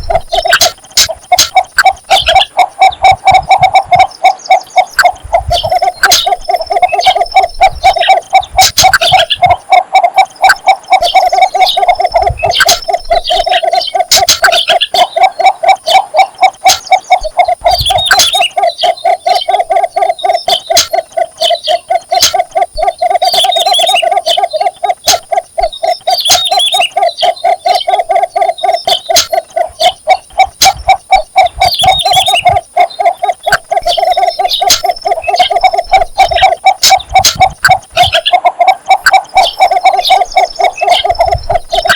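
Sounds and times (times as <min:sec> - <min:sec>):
bittern calling low notes: 0:00.0 - 0:41.9
small birds chirping: 0:00.0 - 0:41.9.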